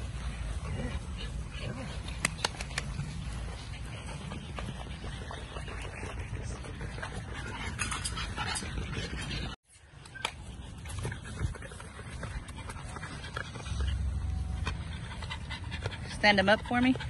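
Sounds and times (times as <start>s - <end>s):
puppy whimpering and panting: 0.4s - 17.0s.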